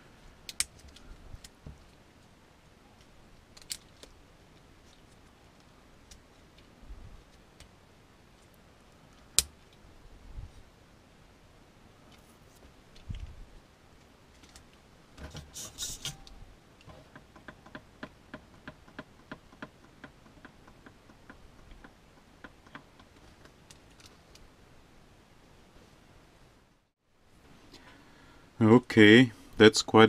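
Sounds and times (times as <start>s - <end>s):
rustle: 0.0s - 30.0s.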